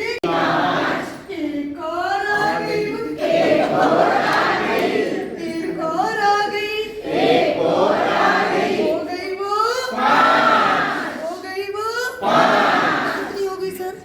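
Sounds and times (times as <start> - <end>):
group chanting a counting rhyme: 0.0 - 11.5, 12.1 - 13.6.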